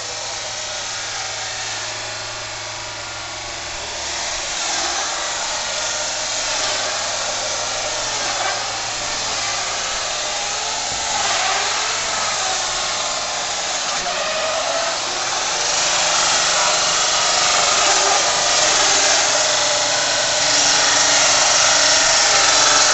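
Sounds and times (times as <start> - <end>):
sawmill machinery running: 0.0 - 22.9.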